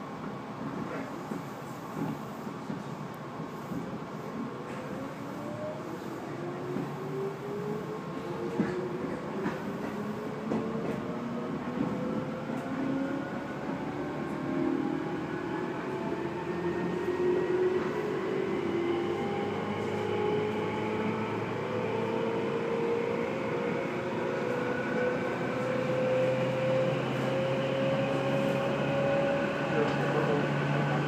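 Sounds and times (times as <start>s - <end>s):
train rumble and hiss: 0.0s - 31.0s.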